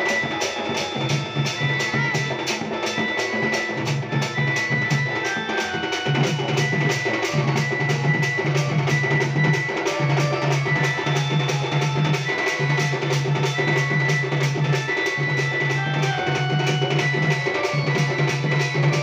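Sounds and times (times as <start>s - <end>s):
barrel drums fast beat: 0.0s - 19.0s.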